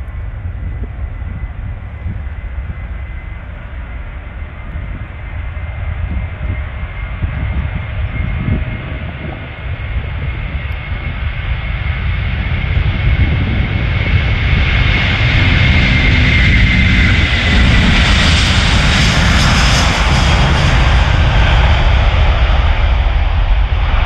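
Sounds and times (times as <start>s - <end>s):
jet engine roar on takeoff: 0.0s - 24.0s.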